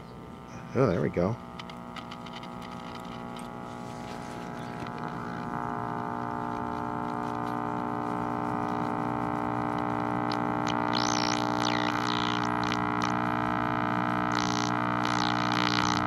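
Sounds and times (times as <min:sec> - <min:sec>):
radio speaker buzzing mains hum: 0:00.0 - 0:16.0.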